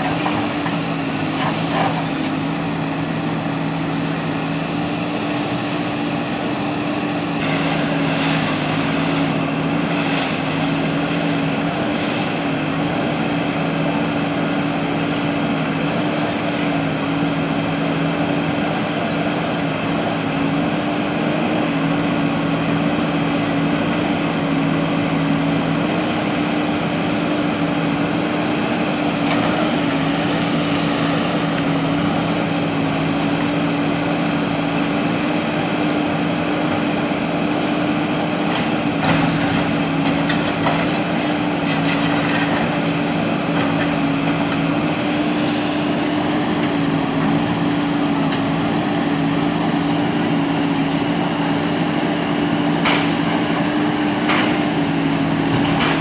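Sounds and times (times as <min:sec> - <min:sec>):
backhoe digging through rubble: 0:00.0 - 0:56.0
diesel engine running under load: 0:00.0 - 0:56.0.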